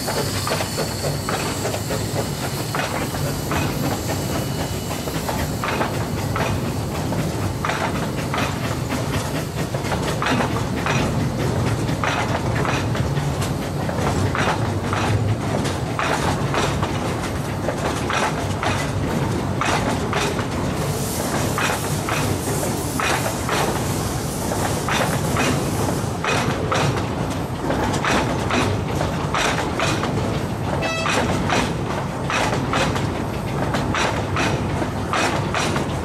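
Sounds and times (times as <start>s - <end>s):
wheels clacking over rail joints: 0.0s - 20.8s, 24.8s - 36.0s.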